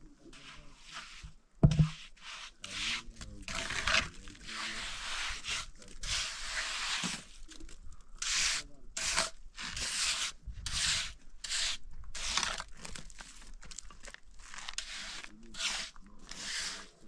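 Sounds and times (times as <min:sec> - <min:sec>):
rubbing or scraping strokes: 0:00.2 - 0:07.6, 0:08.2 - 0:12.9, 0:14.4 - 0:17.0.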